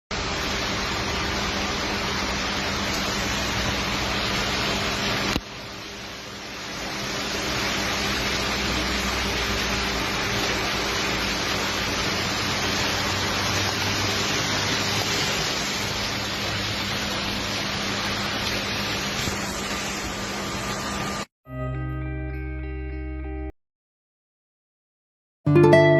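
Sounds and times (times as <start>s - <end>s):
heavy rain pouring: 0.1s - 21.3s.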